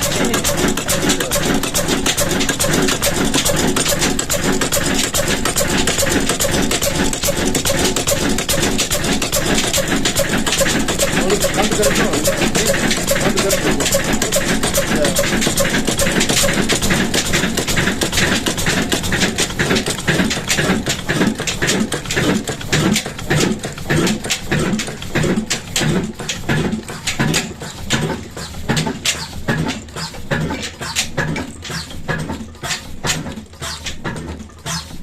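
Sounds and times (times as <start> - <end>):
diesel engine exhaust beating: 0.0 - 35.0.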